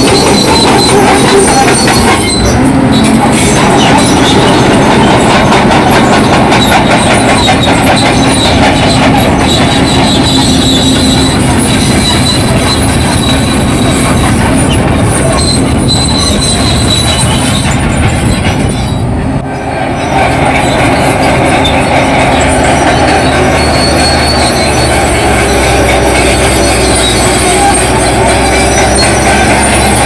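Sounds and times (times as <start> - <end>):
bulldozer diesel engine running: 0.0 - 30.0
steel tracks clanking and squealing: 0.0 - 30.0.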